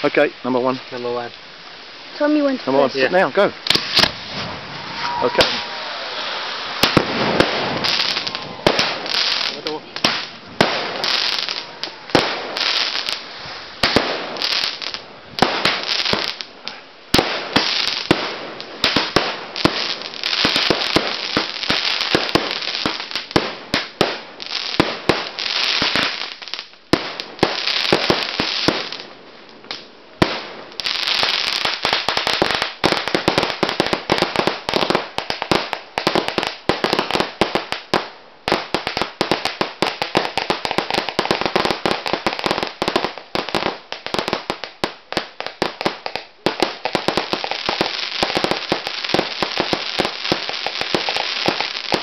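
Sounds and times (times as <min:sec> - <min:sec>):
fireworks banging and crackling: 0:02.1 - 0:52.0.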